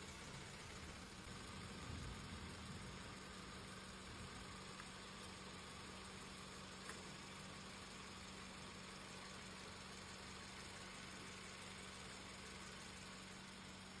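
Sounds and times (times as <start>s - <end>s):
faint car engine idling: 0.0s - 14.0s.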